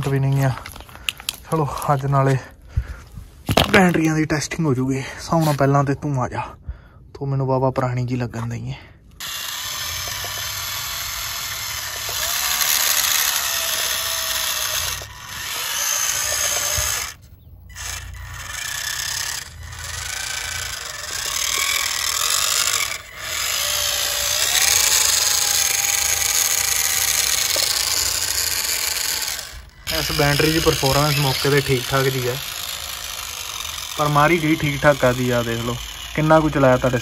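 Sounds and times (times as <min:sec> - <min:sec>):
toy tractor electric motor whining: 0:00.0 - 0:02.2, 0:09.1 - 0:37.0.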